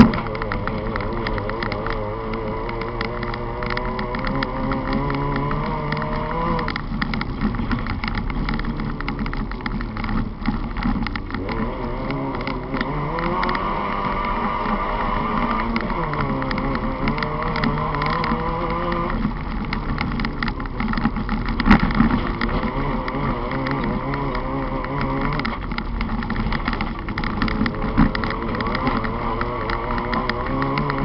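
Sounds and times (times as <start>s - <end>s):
race car engine revving: 0.0s - 31.0s
tyre and gravel noise: 0.0s - 31.0s.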